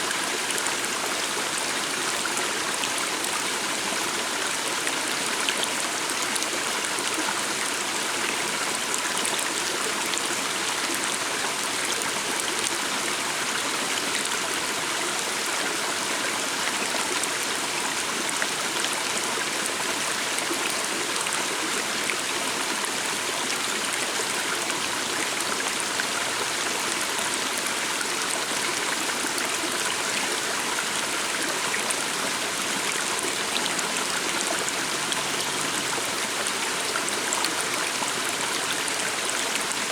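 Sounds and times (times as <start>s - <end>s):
stream running and gurgling: 0.0s - 39.9s.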